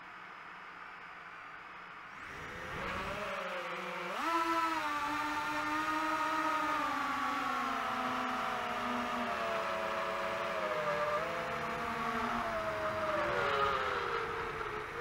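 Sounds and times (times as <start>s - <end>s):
drone motors whining: 2.1s - 15.0s.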